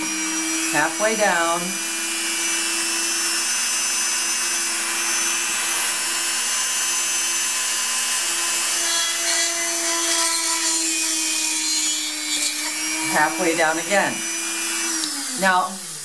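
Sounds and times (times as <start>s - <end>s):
rotary tool motor whine: 0.0s - 16.0s.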